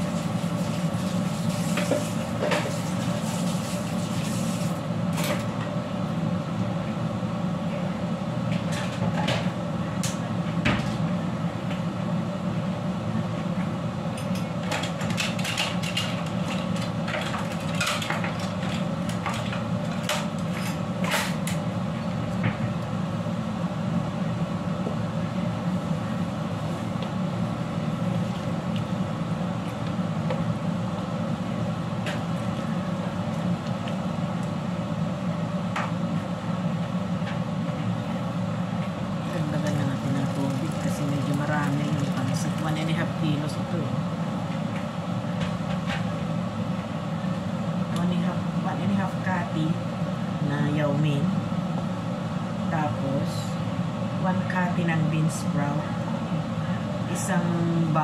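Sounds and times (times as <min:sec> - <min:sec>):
low kitchen hum: 0:00.0 - 0:58.0.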